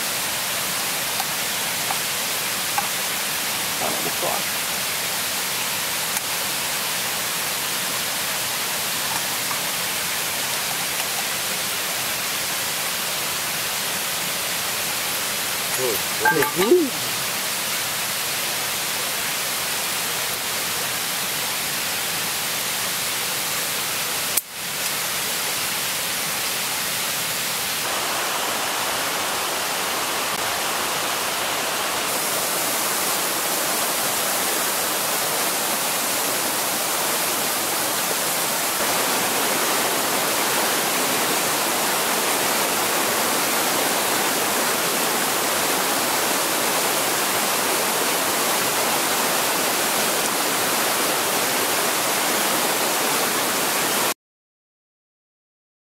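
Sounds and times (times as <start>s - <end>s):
stream rushing over rocks: 0.0s - 54.2s.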